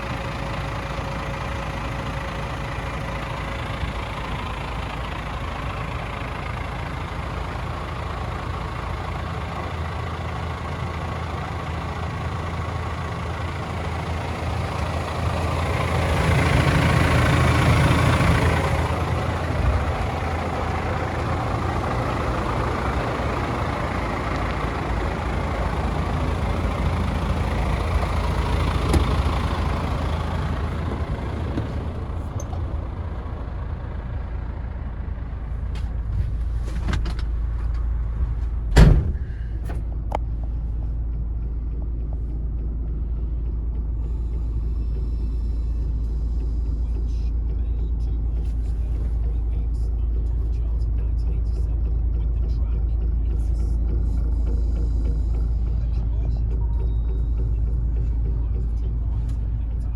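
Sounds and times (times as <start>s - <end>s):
truck diesel engine idling: 0.0s - 59.9s.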